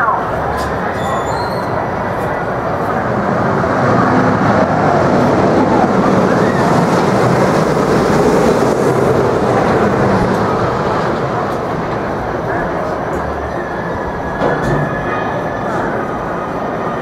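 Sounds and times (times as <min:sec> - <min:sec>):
steam train rumbling: 0:00.0 - 0:17.0.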